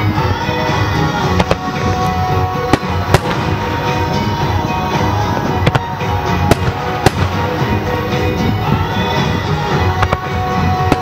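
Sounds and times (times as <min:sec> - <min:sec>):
music playing: 0:00.0 - 0:11.0
firework shells bursting: 0:01.0 - 0:11.0.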